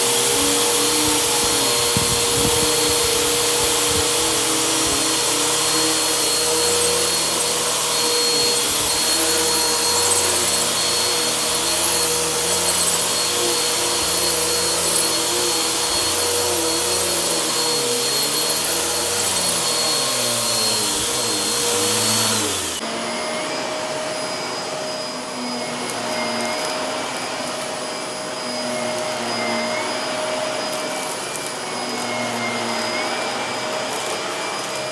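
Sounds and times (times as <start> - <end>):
vacuum cleaner whine: 0.0 - 34.9.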